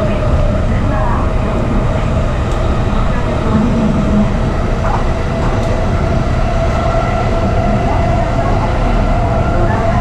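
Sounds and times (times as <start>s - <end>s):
train wheels rumbling on track: 0.0s - 10.0s
train whine: 0.0s - 10.0s.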